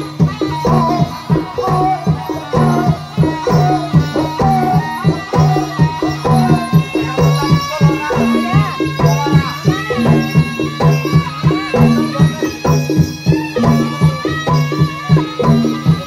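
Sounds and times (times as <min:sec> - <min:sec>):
gamelan music: 0:00.0 - 0:16.0
hand drums beating: 0:00.0 - 0:16.0.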